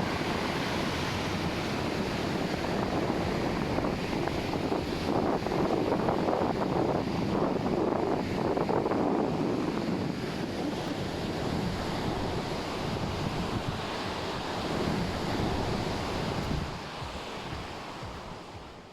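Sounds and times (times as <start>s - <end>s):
ocean surf washing onto beach: 0.0s - 18.9s
wind buffeting microphone: 0.0s - 18.9s.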